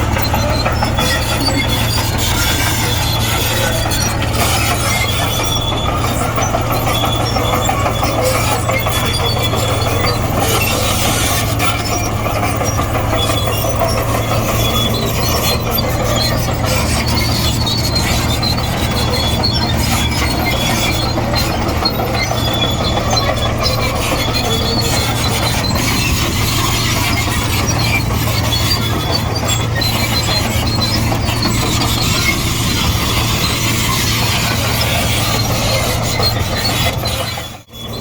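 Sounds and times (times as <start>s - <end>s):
bulldozer diesel engine: 0.0s - 38.0s
steel tracks squeaking: 0.0s - 38.0s.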